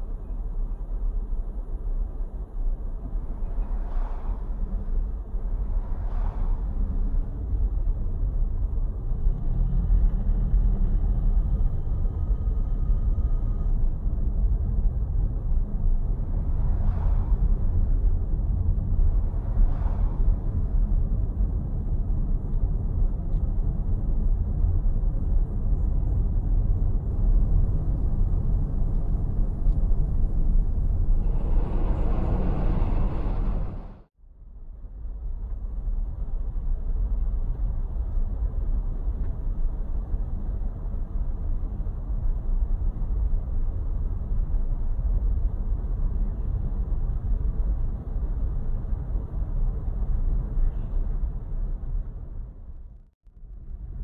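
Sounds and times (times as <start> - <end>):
car road and wind noise: 0.0 - 54.0
low rumble of street noise: 0.0 - 54.0.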